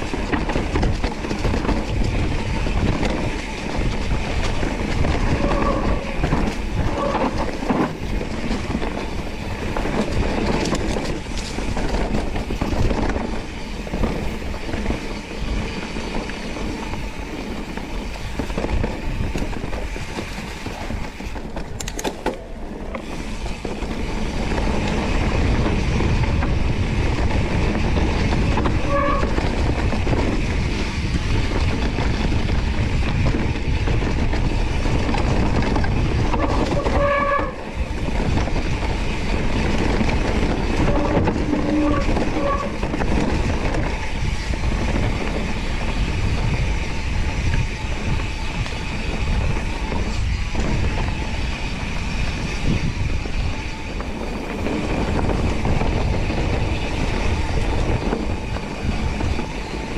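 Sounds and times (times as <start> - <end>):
bike rattling over rough trail: 0.0 - 59.9.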